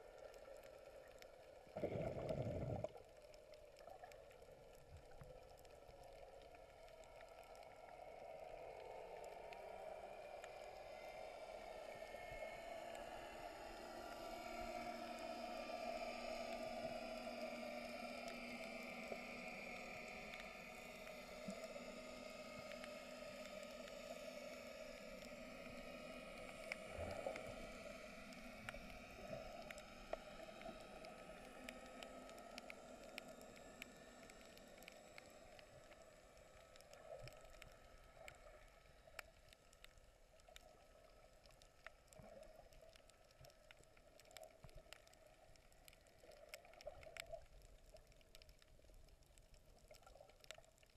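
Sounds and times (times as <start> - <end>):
underwater clicks and crackles: 0.0 - 50.9
underwater low hum: 0.0 - 50.9.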